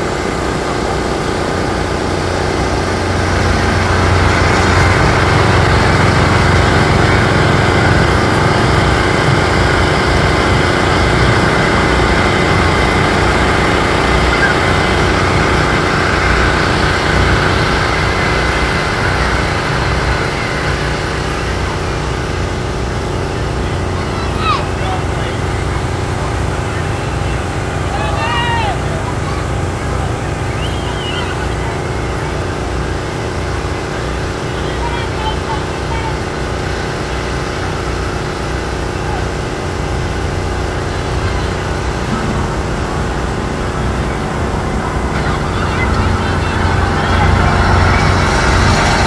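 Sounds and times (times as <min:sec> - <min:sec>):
kiddie train engine running: 0:00.0 - 0:49.0.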